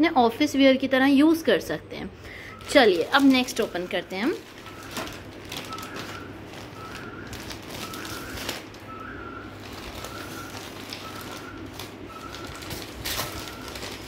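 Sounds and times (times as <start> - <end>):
paper bags crinkling: 2.4 - 14.0.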